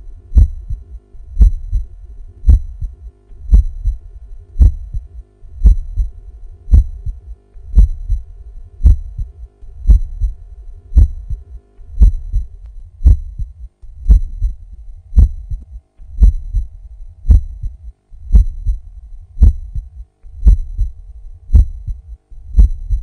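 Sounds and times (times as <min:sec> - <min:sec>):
heartbeat through stethoscope: 0:00.0 - 0:23.0.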